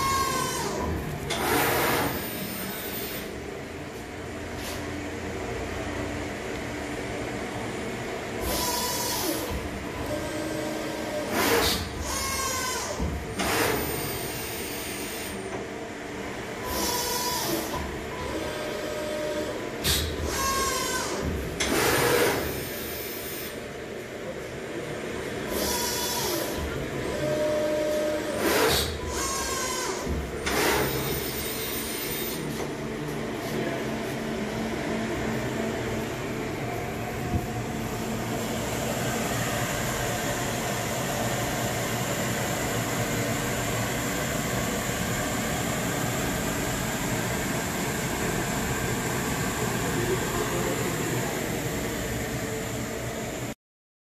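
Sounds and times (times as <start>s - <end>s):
machine mechanical hum: 0.0s - 53.6s.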